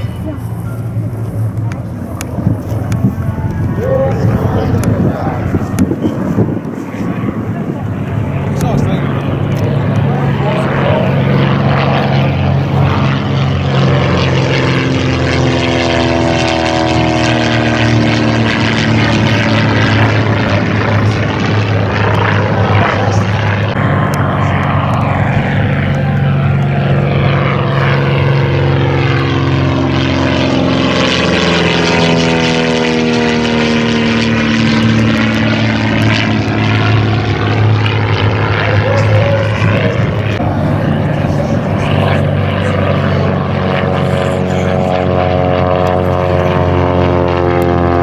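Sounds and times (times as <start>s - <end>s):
propeller plane engine droning: 0.0s - 48.0s.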